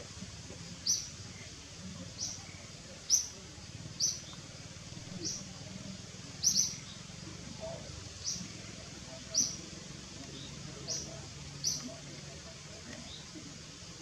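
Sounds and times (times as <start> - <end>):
small bird chirping: 0.8 - 13.6.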